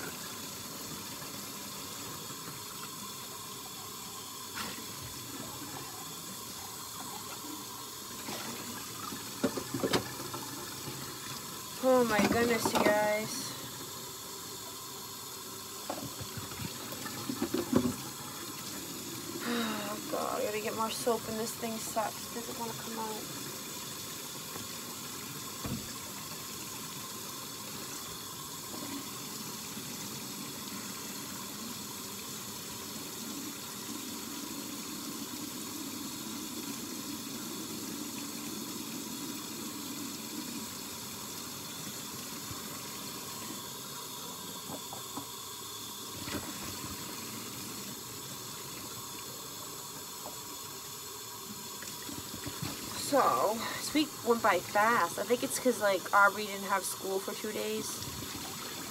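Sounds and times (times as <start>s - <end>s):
faucet running into sink: 0.0s - 58.9s.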